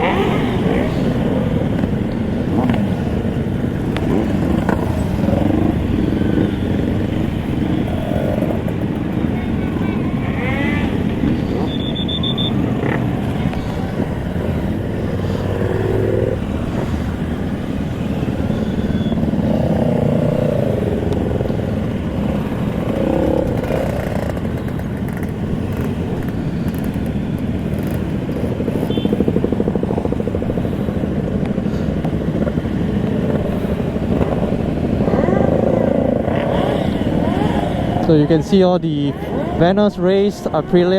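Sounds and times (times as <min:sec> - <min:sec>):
motorcycles riding past: 0:00.0 - 0:40.9.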